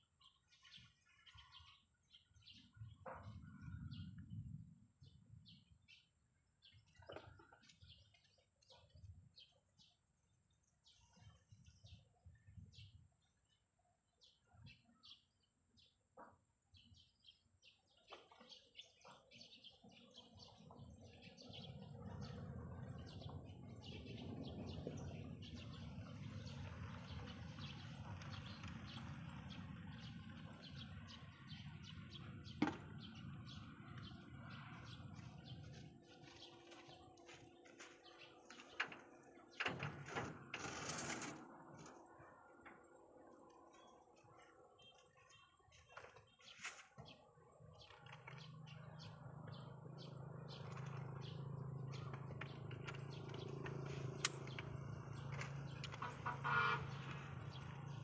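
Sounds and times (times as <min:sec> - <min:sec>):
small birds chirping: 0:00.0 - 0:41.2, 0:41.8 - 0:58.0.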